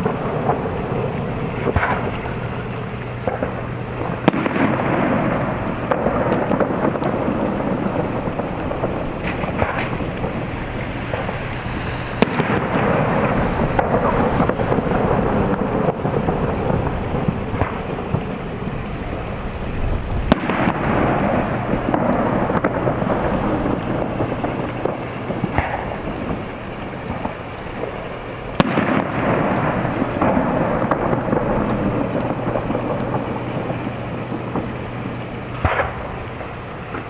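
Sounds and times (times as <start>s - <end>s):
firework booms: 0.0s - 37.0s
sharp firework cracks: 0.0s - 37.0s.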